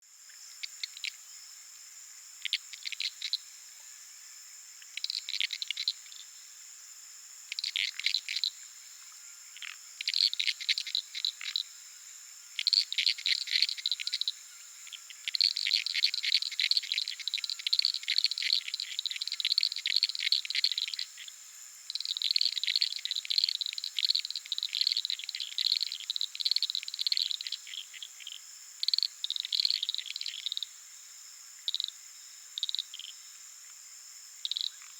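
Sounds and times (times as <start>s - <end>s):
frogs calling with clicks: 0.2s - 34.9s.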